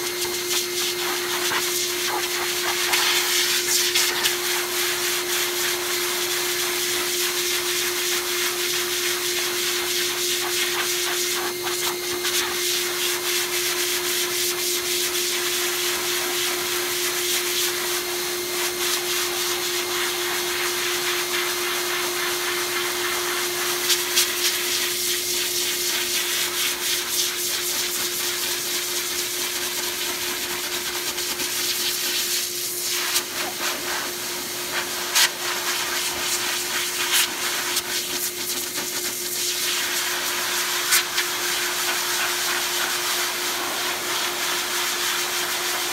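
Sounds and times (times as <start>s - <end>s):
pet blower whining air rush: 0.0s - 45.9s.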